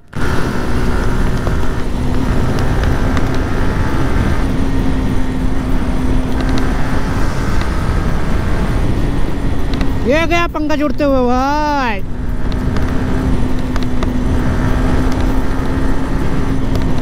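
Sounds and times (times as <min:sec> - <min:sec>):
motorcycle engine drone: 0:00.0 - 0:17.0
wind rush on microphone: 0:00.0 - 0:17.0.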